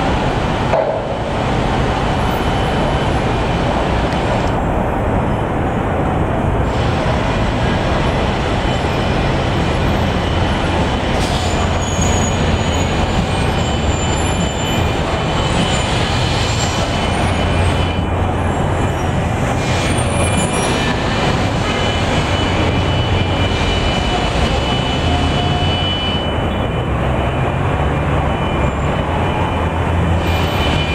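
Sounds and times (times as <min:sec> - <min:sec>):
city street traffic rumble: 0:00.0 - 0:30.9.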